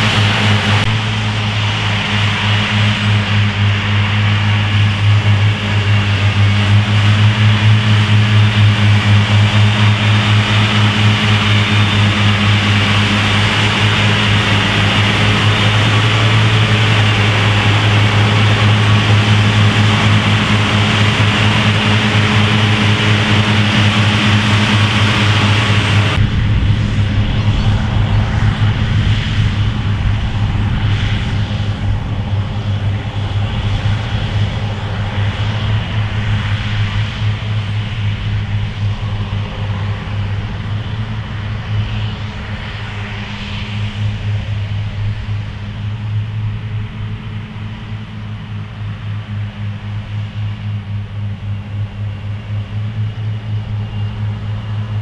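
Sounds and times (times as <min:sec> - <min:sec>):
diesel mower engine drone: 0:00.0 - 0:55.0.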